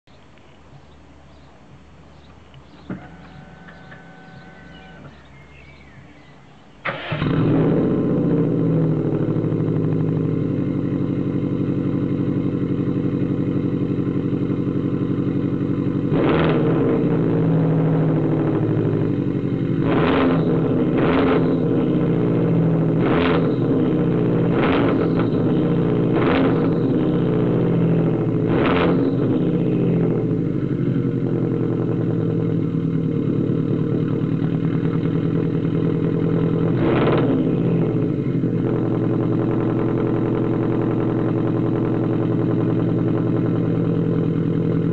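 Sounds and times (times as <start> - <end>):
car engine starting and idling: 0.4 - 44.9
engine revving: 2.7 - 5.8, 6.8 - 44.9.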